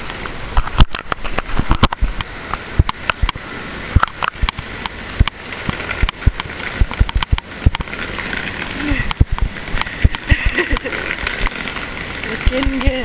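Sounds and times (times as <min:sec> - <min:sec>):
rustling background noise: 0:00.0 - 0:13.0.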